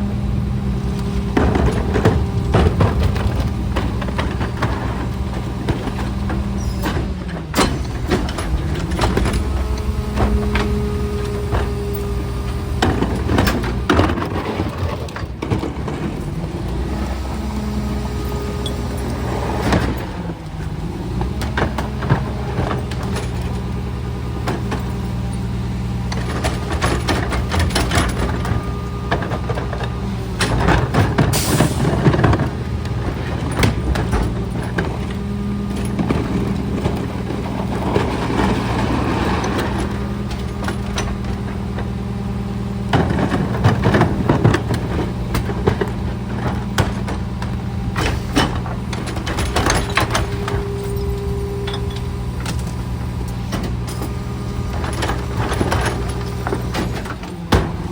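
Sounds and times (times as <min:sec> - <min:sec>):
garbage truck diesel engine: 0:00.0 - 0:57.9.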